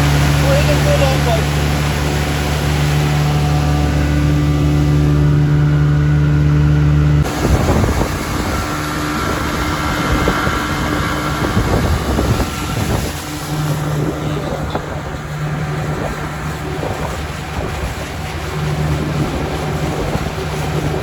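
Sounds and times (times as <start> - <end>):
boat engine running: 0.0 - 21.0
rush of wind and water: 0.0 - 21.0.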